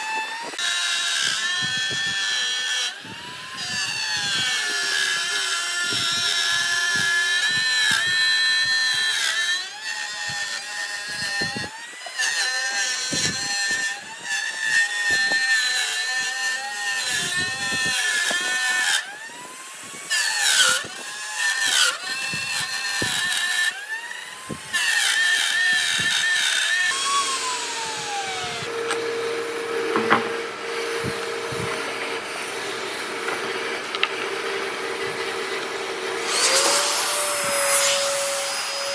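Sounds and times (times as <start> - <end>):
power tool cutting wood: 0.0 - 38.9.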